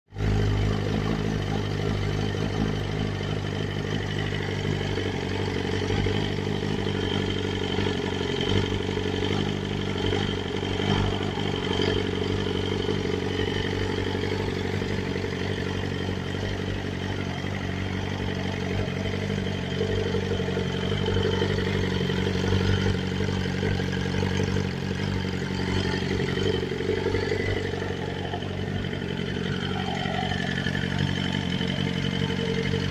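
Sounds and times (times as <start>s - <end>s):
motorcycle engine idling: 0.1s - 32.9s.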